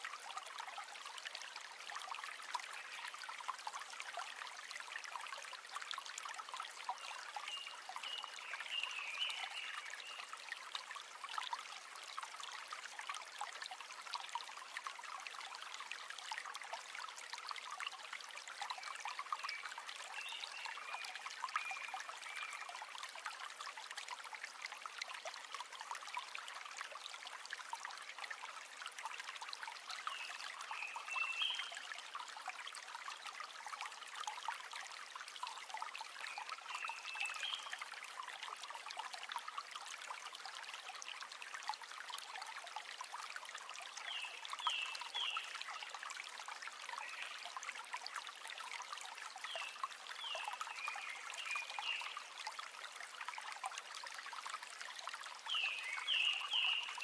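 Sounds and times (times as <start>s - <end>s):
river water trickling: 0.0s - 57.0s.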